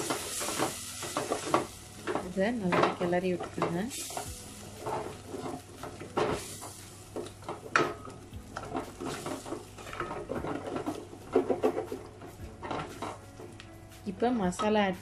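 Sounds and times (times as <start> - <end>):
wooden spatula scraping pot: 0.0 - 13.6
light sizzle: 0.0 - 14.5.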